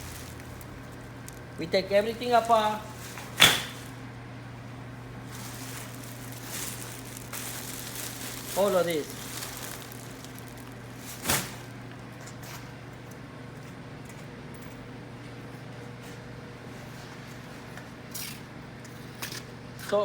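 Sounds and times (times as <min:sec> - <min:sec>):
low workshop hum: 0:00.0 - 0:20.0.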